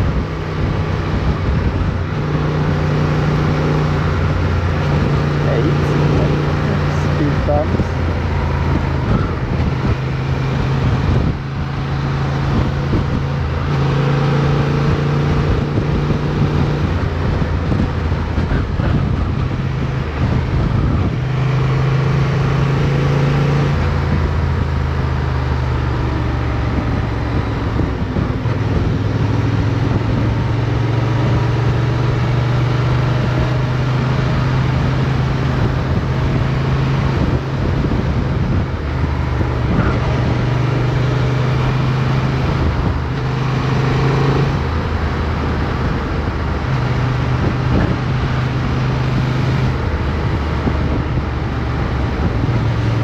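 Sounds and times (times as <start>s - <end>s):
motorcycle engine running: 0.0s - 22.9s, 23.7s - 53.0s
wind and road noise: 0.0s - 53.0s.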